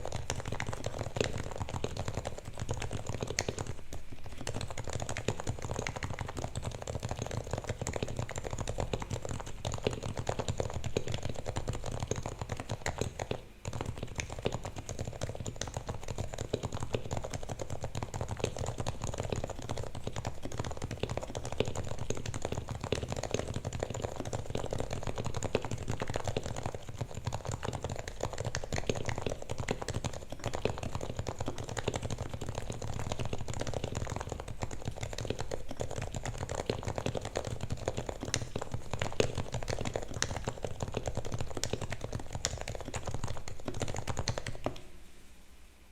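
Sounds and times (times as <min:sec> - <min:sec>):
keyboard typing: 0:00.0 - 0:44.9.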